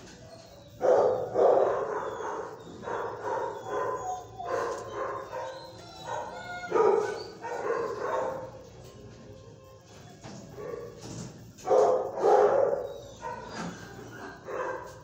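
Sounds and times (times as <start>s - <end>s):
dog barking: 0.7s - 8.7s, 10.5s - 15.0s.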